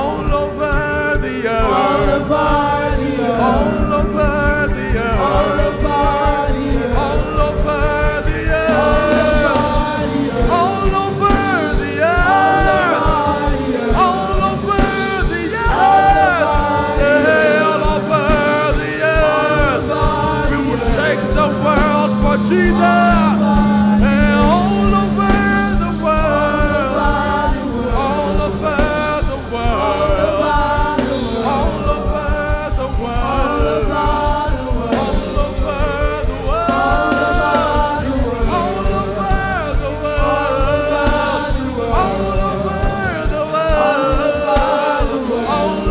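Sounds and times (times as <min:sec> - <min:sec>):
instrumental accompaniment: 0:00.0 - 0:45.9
voices singing gospel: 0:00.0 - 0:45.9.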